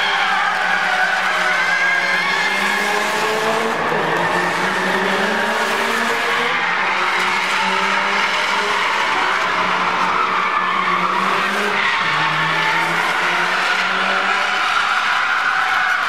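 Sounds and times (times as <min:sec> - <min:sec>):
car engine revving high: 0:01.6 - 0:15.4.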